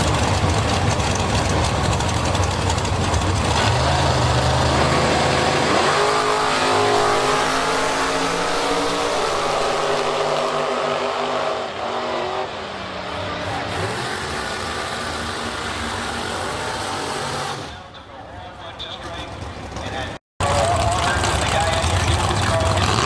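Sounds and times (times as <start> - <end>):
race car engine accelerating: 0.0 - 17.9, 20.4 - 23.0.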